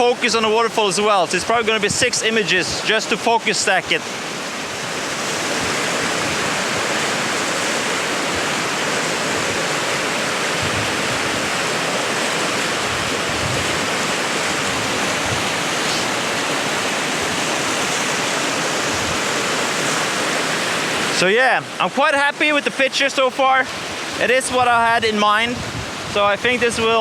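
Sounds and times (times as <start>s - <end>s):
waterfall and river rushing: 0.0s - 27.0s.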